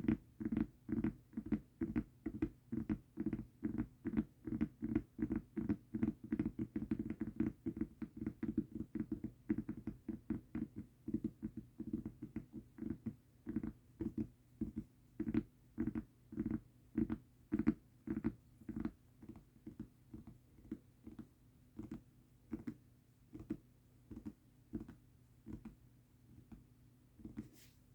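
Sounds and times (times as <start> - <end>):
tapping on a mousepad: 0.0 - 25.8, 27.2 - 27.6.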